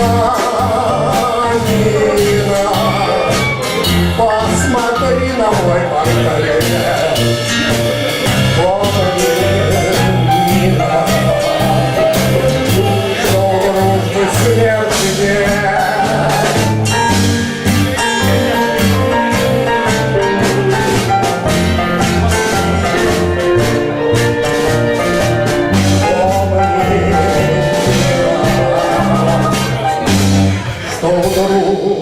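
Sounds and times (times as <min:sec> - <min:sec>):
bass line: 0:00.0 - 0:32.0
drum kit: 0:00.0 - 0:32.0
live band playing: 0:00.0 - 0:32.0.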